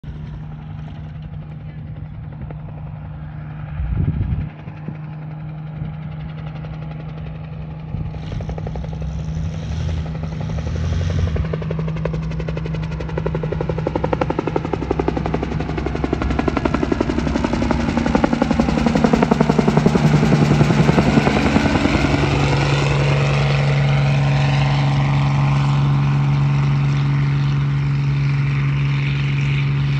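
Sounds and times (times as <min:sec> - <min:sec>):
helicopter rotor chop and engine: 0:00.0 - 0:29.9.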